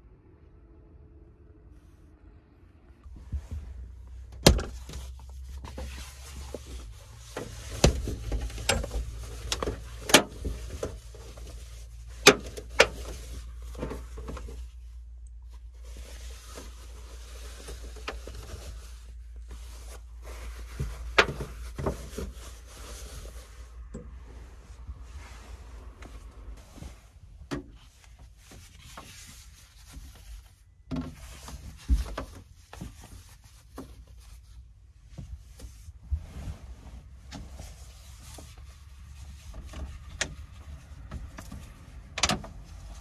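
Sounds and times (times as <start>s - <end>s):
cloth shade rustling: 3.0s - 43.0s.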